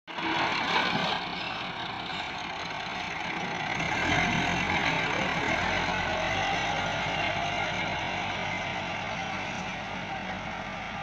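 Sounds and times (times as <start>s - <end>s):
diesel tractor engine running: 0.1s - 11.0s.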